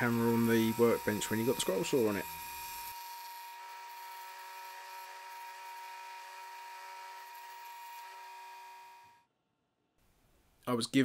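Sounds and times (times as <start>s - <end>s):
scroll saw cutting plywood: 0.0s - 9.2s.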